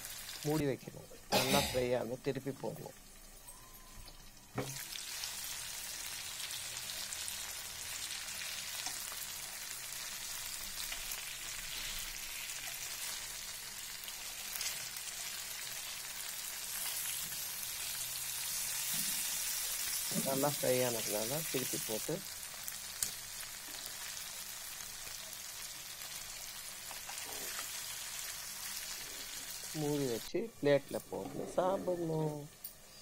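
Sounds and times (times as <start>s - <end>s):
fish sizzling in hot oil: 0.0s - 0.7s, 1.8s - 30.4s.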